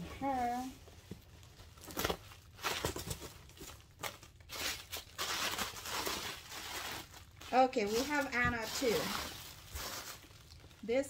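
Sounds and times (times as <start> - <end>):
bubble wrap and paper crinkling: 0.1 - 11.0.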